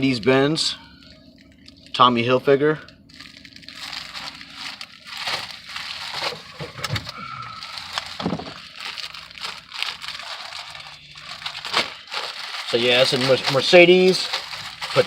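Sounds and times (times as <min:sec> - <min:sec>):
packaging crinkling: 0:02.9 - 0:15.0.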